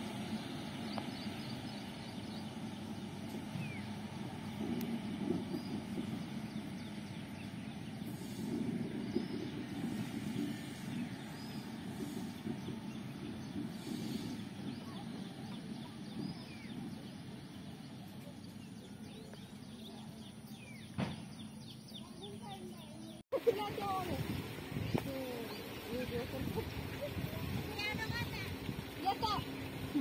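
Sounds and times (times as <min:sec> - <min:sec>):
birds chirping: 0:00.0 - 0:30.0
distant vehicle rumble: 0:00.0 - 0:30.0.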